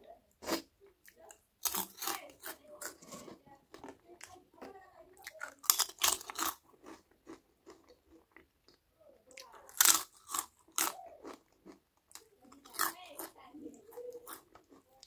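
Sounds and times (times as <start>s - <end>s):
person chewing crisp food: 0.3s - 15.0s.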